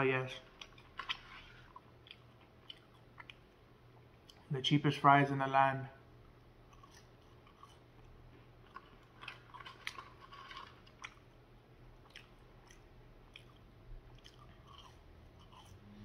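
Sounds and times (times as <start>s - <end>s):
chewing fries: 0.2s - 4.6s, 6.2s - 16.0s.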